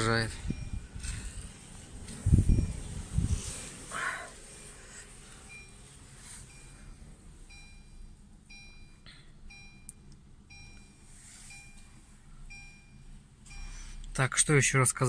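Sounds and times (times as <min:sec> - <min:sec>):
car warning chime beeping: 0:00.0 - 0:14.7.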